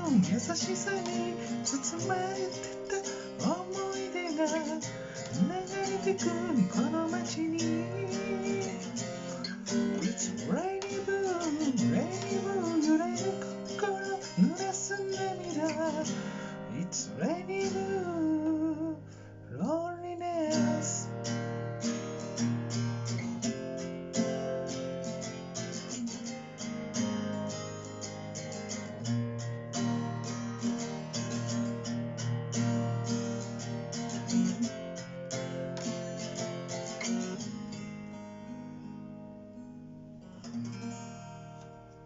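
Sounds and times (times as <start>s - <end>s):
acoustic guitar strumming chords: 0.0s - 42.0s.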